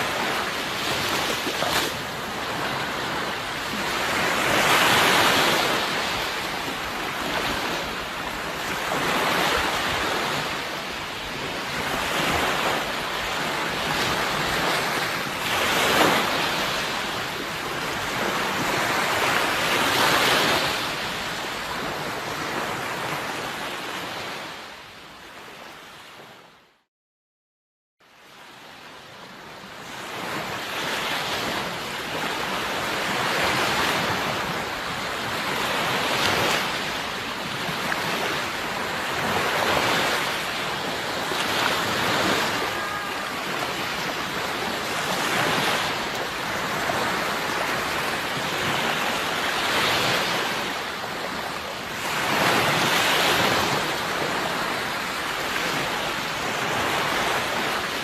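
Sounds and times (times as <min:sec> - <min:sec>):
sea waves washing onto shore: 0:00.0 - 0:24.8, 0:28.4 - 0:58.0.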